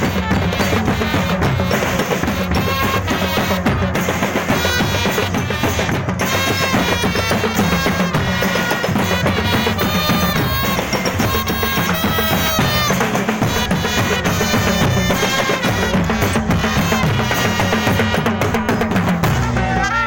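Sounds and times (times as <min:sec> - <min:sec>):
bass and snare drums: 0:00.0 - 0:20.0
marching drum band: 0:00.0 - 0:20.0.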